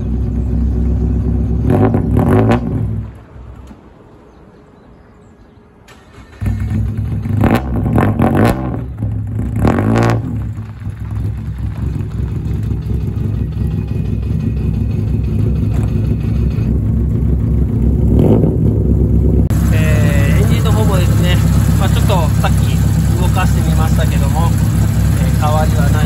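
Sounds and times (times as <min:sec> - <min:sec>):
car engine idling and revving: 0:00.0 - 0:04.1, 0:05.9 - 0:26.0.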